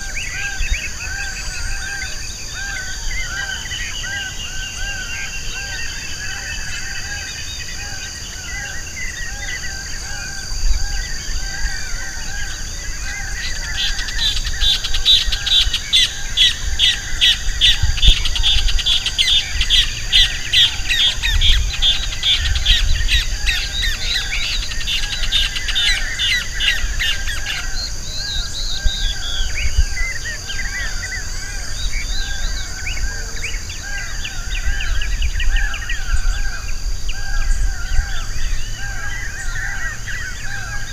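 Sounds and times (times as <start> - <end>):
rapid high bird calls: 0.0 - 40.9
wild birds calling and singing: 0.0 - 40.9.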